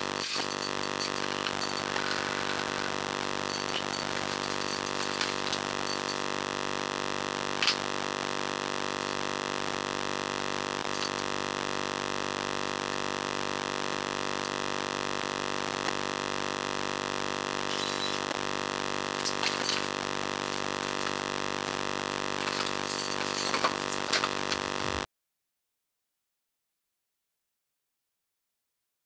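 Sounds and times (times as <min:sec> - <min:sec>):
steady electronic drone: 0:00.0 - 0:25.1.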